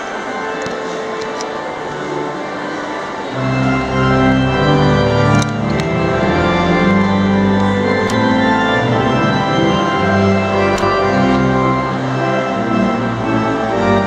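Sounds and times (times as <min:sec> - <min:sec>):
pipe organ playing held chords: 0:00.0 - 0:14.0.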